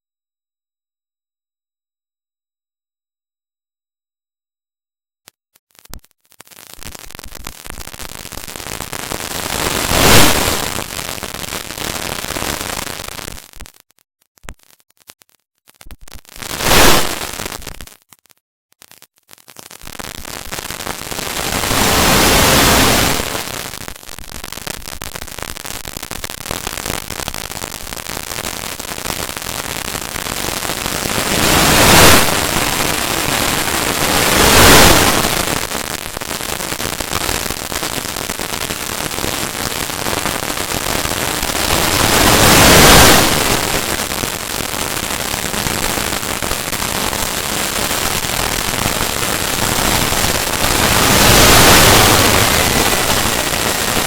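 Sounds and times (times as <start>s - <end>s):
harsh static-like hiss: 5.6s - 18.3s, 18.9s - 54.0s.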